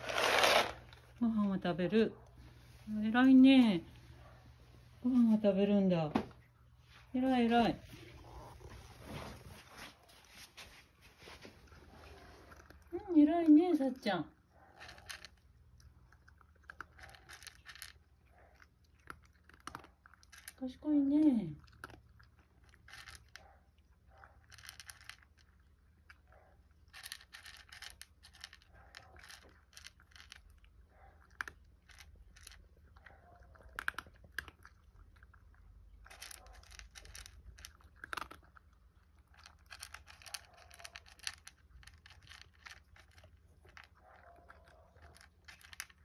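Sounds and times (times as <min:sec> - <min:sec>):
cat chewing and crunching: 0:00.0 - 0:03.2, 0:06.4 - 0:46.0.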